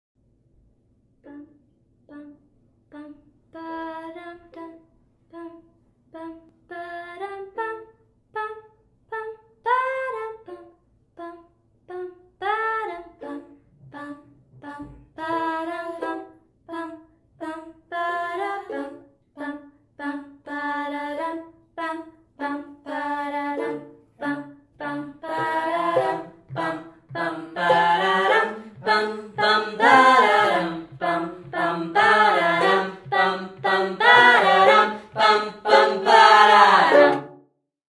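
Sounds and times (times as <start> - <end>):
person singing a cappella: 1.2 - 37.2.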